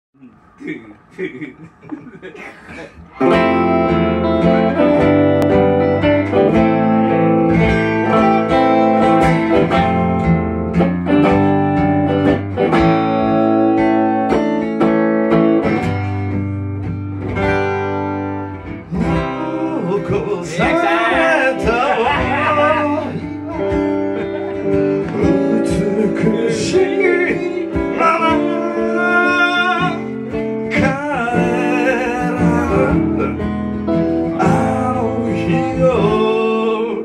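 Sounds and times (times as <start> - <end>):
guitar-led band music: 2.9 - 37.0.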